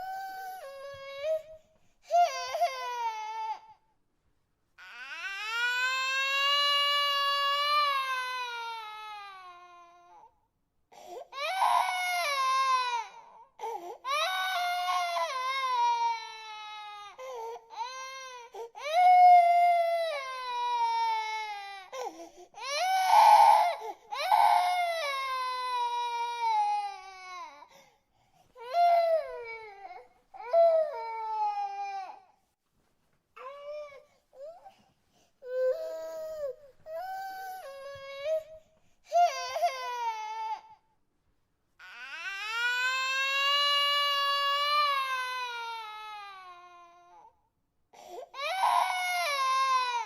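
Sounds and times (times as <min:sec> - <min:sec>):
infant crying: 0:00.0 - 0:03.8, 0:04.8 - 0:10.3, 0:11.0 - 0:27.8, 0:28.6 - 0:32.4, 0:35.4 - 0:40.8, 0:41.8 - 0:47.3, 0:48.0 - 0:50.0.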